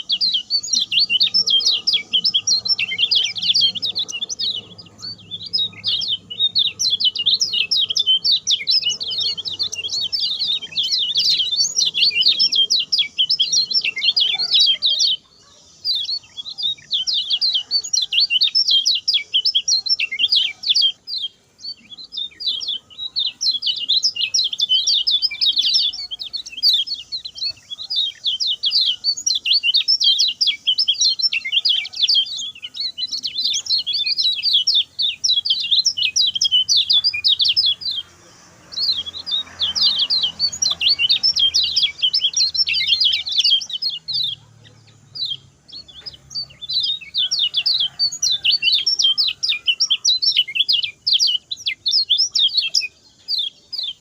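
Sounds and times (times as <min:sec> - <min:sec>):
bird singing rapid high chirps: 0:00.0 - 0:54.0.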